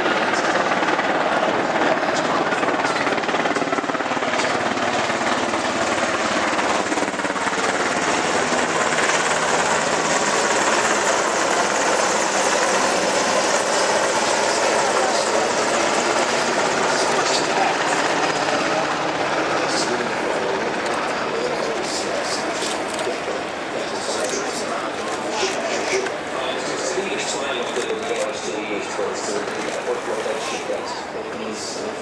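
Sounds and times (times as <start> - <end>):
helicopter rotor and engine noise: 0.0 - 32.0.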